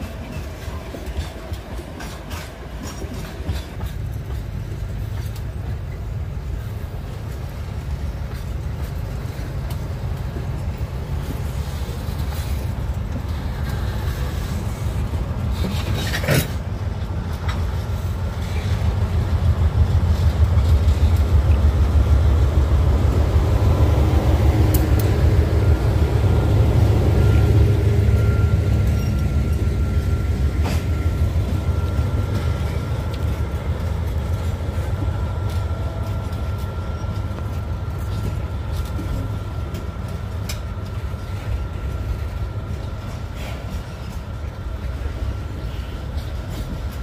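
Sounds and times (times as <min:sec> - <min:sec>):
locomotive engine rumble: 0:00.0 - 0:47.0.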